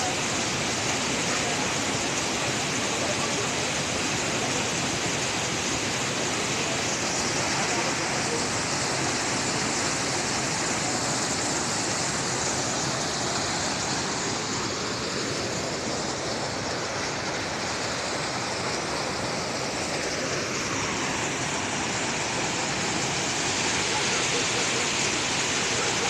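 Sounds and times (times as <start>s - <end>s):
stream rushing over boulders: 0.0s - 26.0s.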